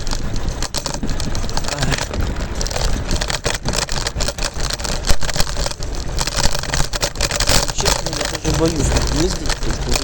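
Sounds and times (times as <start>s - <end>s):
scooter rattles and knocks: 0.0s - 10.0s
wind and wheel noise: 0.0s - 10.0s.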